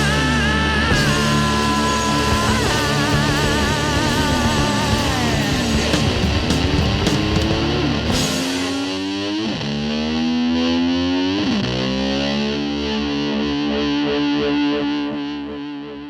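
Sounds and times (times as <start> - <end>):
distorted electric guitar sliding up: 0.0 - 16.0.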